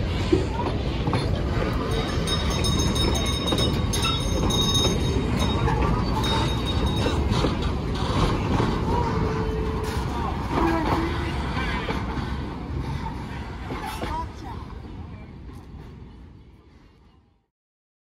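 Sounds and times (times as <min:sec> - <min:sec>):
train wheels rumbling on rail: 0:00.0 - 0:17.3.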